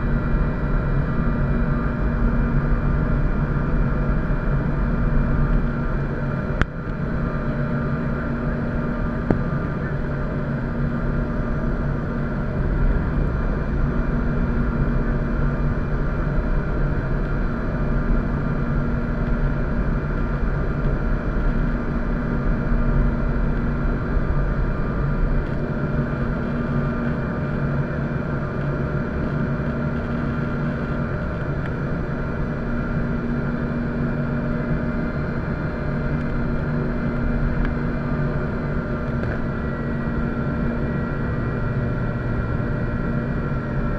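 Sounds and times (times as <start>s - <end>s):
jet engine hum: 0.0s - 43.9s.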